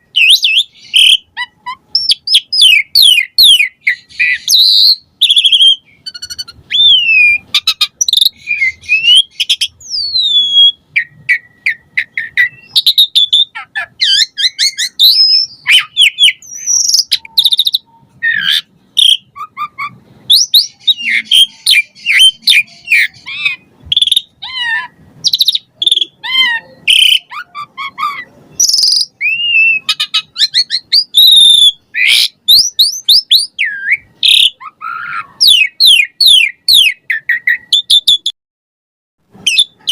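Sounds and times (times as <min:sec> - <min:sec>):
starling singing: 0:00.0 - 0:38.3, 0:39.4 - 0:39.9.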